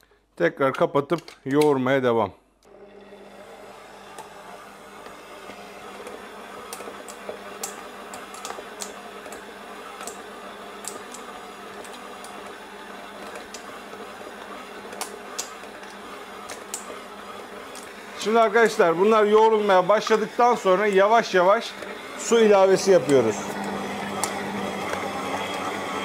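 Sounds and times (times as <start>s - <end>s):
mixer beater clicking: 2.6s - 26.0s
stand mixer motor hum: 2.7s - 26.0s.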